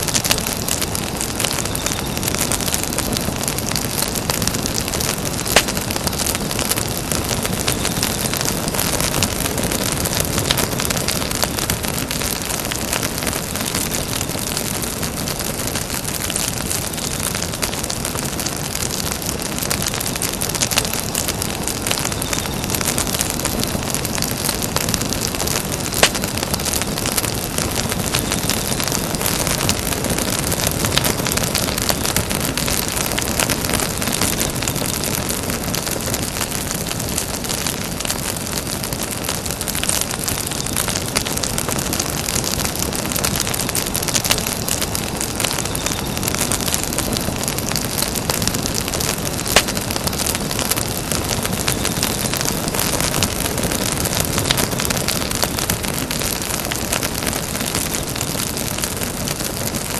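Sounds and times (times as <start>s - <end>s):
campfire crackling: 0.0s - 59.9s
fire sharp pops: 0.0s - 59.9s.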